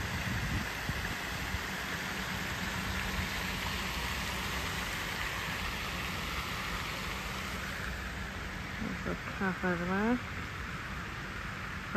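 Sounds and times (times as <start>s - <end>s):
fountain spray splashing on water: 0.0s - 11.9s.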